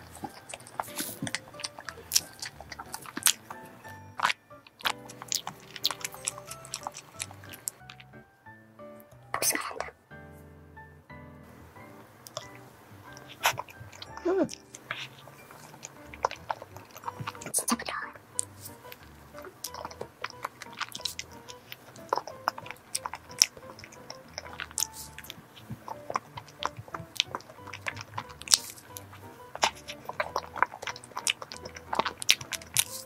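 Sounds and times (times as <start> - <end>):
wet mouth clicks and smacks: 0.0 - 8.1, 12.3 - 33.0
chewing soft cake: 0.0 - 8.2, 11.9 - 33.0
background music: 0.0 - 33.0.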